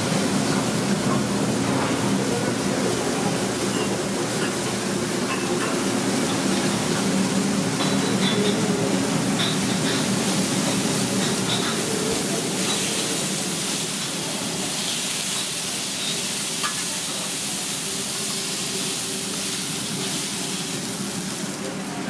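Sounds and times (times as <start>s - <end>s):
burger patties sizzling on griddle: 0.0s - 22.0s.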